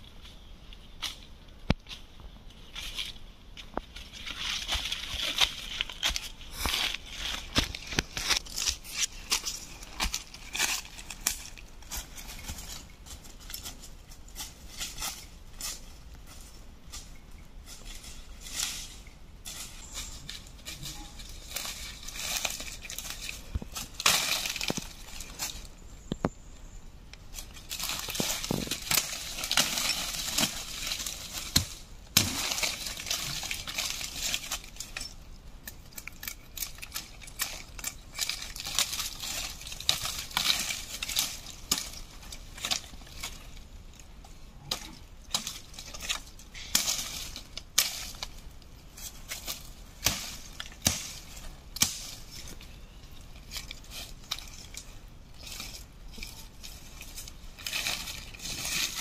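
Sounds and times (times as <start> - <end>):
dry leaves crunching underfoot: 0.4 - 59.0.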